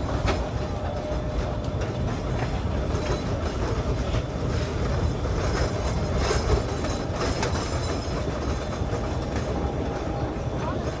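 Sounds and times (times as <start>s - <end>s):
train cars rumbling: 0.0s - 11.0s
wheel and rail clatters: 0.0s - 11.0s.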